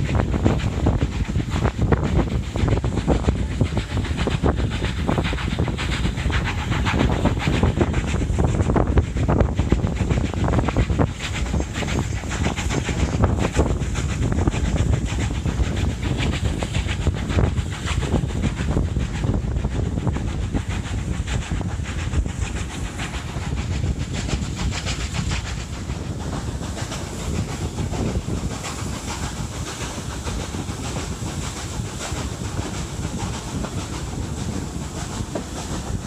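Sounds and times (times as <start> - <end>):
steam hissing: 0.0 - 36.0
steam locomotive chuffing: 0.0 - 36.0
train clattering on rails: 0.0 - 36.0.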